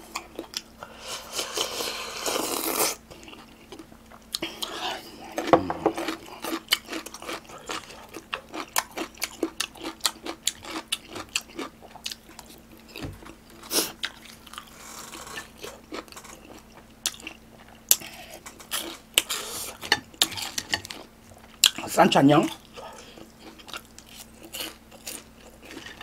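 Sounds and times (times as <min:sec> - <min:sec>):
chewing crunchy food: 0:00.0 - 0:26.0
faint steady hum: 0:00.0 - 0:26.0.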